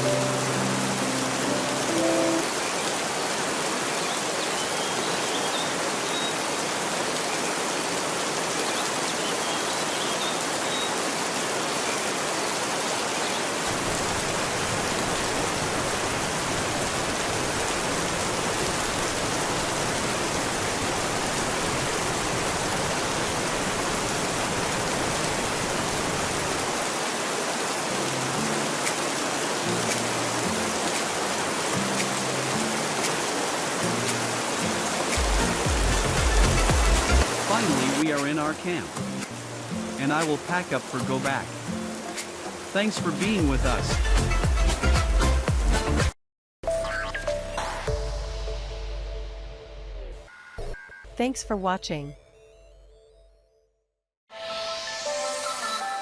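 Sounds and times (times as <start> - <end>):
steady rain hiss: 0.0 - 45.0.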